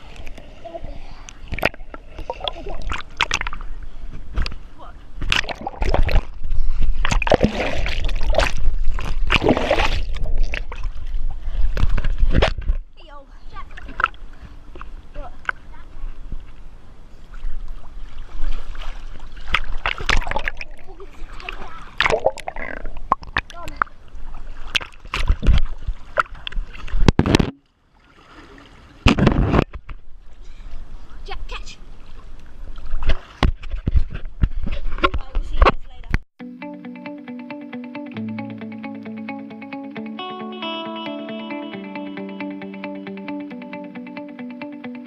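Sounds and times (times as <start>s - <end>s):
water splashing and sloshing: 0.0s - 36.2s.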